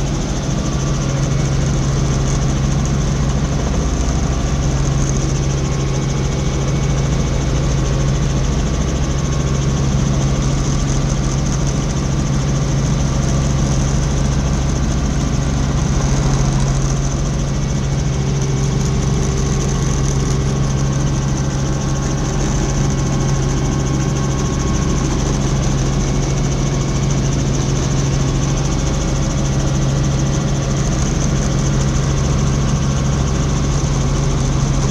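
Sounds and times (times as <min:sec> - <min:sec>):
helicopter engine and rotors drone: 0:00.0 - 0:34.9.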